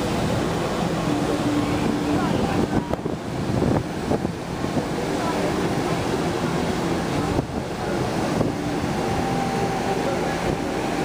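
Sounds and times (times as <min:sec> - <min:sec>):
water rushing over slope: 0:00.0 - 0:11.0
wind on microphone: 0:00.0 - 0:11.0.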